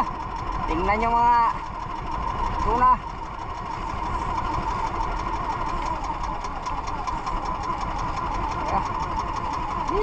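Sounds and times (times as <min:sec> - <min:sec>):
boat engine running: 0:00.0 - 0:10.0
water rushing along hull: 0:00.0 - 0:10.0.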